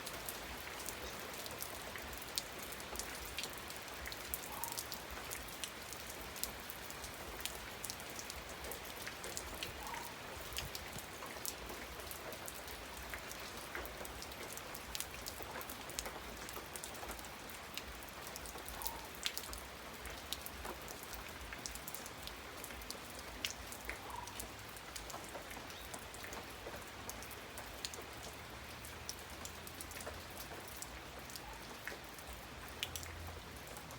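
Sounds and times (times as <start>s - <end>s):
raindrops striking a surface: 0.0s - 33.9s
steady rain: 0.0s - 33.9s.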